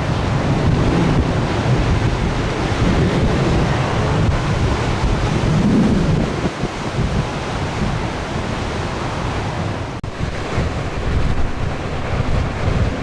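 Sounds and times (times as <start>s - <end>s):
stormy sea surf rumbling: 0.0s - 13.0s
wind buffeting microphone: 0.0s - 13.0s.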